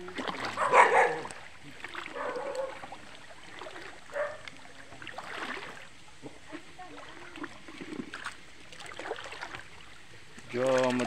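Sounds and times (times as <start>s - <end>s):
wading through shallow water: 0.0s - 11.0s.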